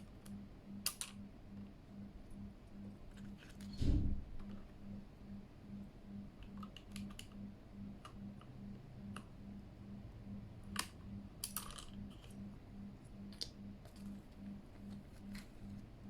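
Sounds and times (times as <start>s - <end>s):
faint pulsing low hum: 0.0s - 16.0s.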